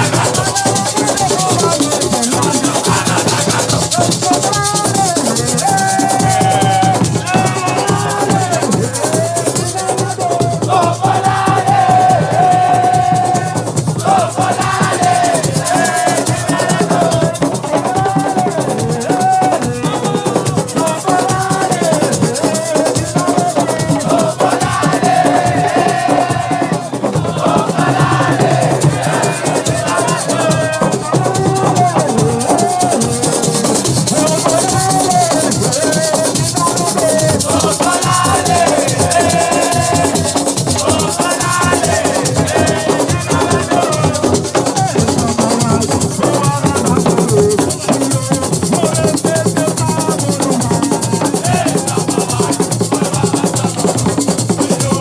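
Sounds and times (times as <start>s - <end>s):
drums: 0.0s - 55.0s
group of voices singing: 0.0s - 55.0s
shaker rhythm: 0.0s - 55.0s.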